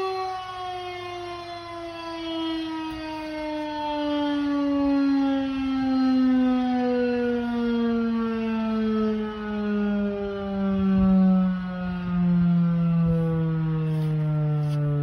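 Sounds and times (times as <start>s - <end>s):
siren winding down: 0.0s - 15.0s.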